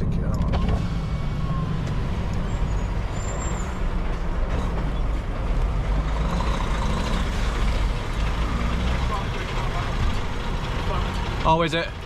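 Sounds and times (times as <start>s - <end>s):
diesel lorry engine idling: 0.0s - 12.0s.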